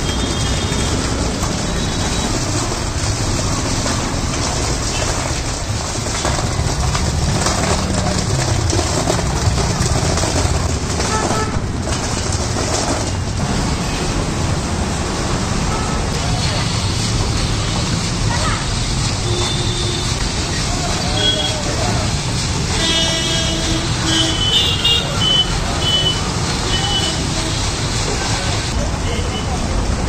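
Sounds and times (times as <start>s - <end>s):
machinery running: 0.0s - 28.8s
street background noise: 0.0s - 30.0s.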